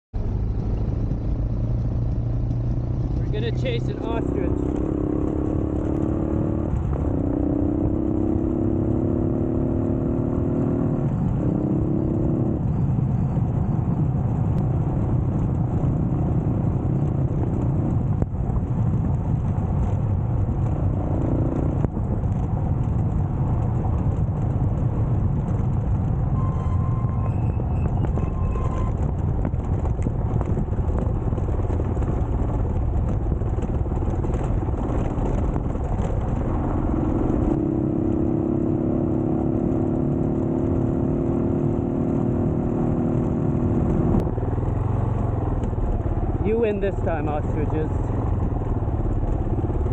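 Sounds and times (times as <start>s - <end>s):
motorcycle engine accelerating: 0.2s - 49.9s.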